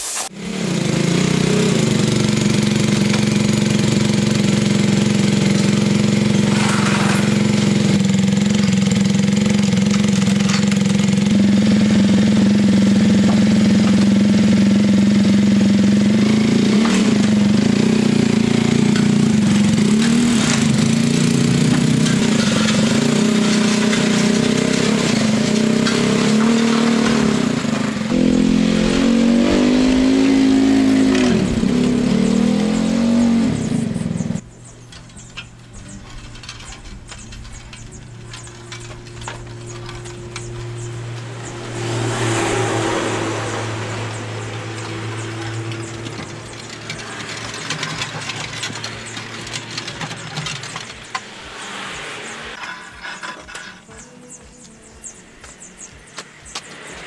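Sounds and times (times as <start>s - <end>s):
atv engine idling: 0.7s - 41.7s, 43.1s - 51.4s.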